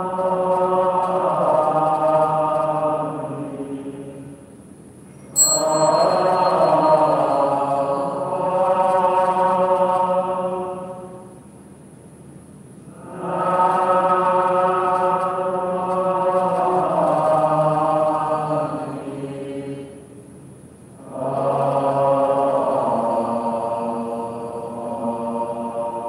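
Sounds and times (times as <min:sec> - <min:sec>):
slow devotional chanting: 0:00.0 - 0:11.8, 0:12.8 - 0:26.0.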